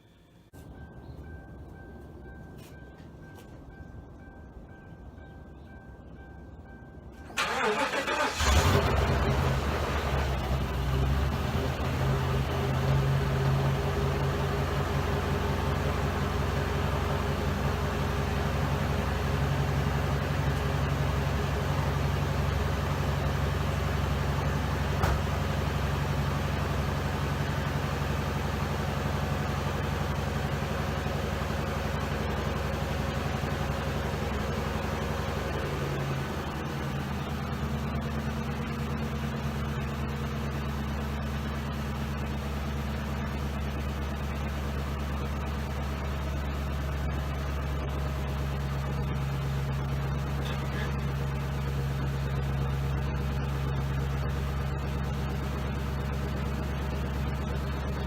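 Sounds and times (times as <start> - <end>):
car engine idling: 5.0 - 58.0.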